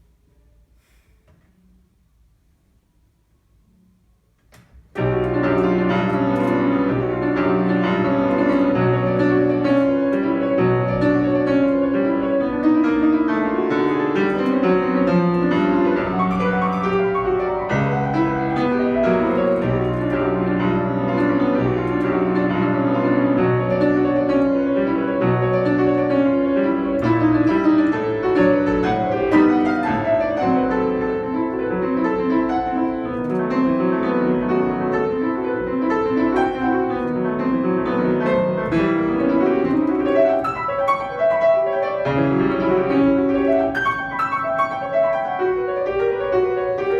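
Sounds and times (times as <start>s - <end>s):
solo piano classical piece: 0.0s - 46.9s.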